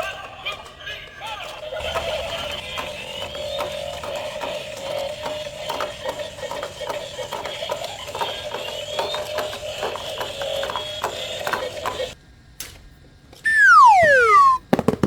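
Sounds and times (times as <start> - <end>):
rapid clicking and ratcheting: 0.0 - 12.2.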